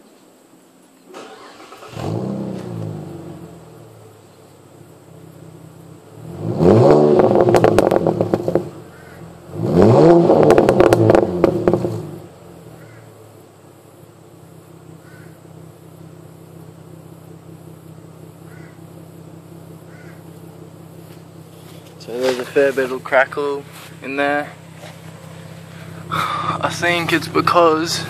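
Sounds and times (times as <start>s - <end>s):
car engine revving: 1.2s - 28.0s
exhaust crackles and pops: 1.8s - 28.0s.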